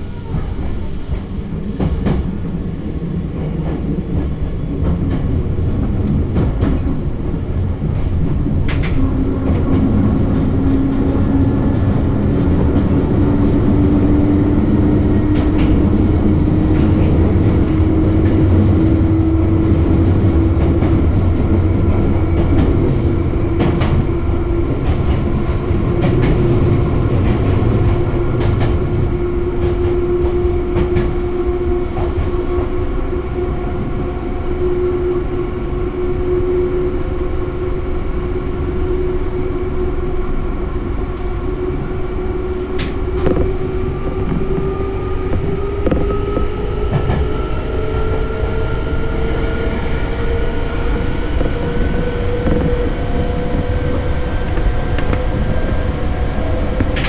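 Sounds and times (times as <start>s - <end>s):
electric train rumble and hum: 0.0s - 57.0s.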